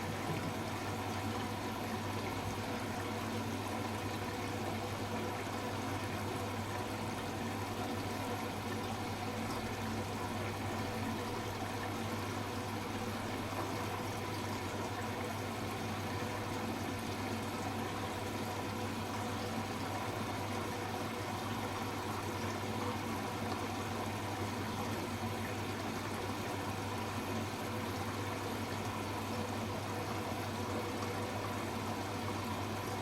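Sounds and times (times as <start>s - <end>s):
washing machine running: 0.0s - 33.0s.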